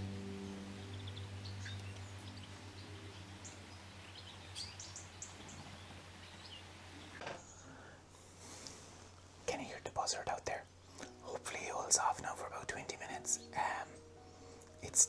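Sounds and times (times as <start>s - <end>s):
small birds chirping: 0.0s - 7.7s, 9.2s - 15.0s
low steady hum: 0.0s - 15.0s.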